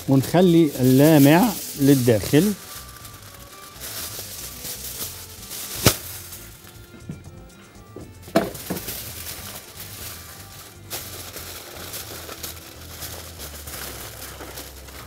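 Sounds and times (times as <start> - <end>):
aluminium foil crinkling: 0.0 - 6.9, 8.2 - 15.0.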